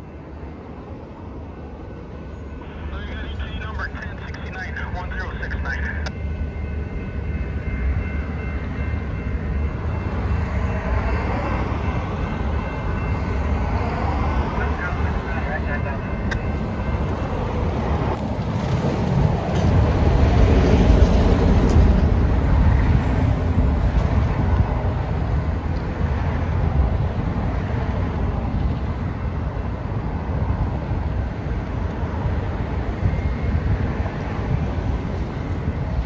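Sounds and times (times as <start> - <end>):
road traffic rumble: 0.5 - 36.0.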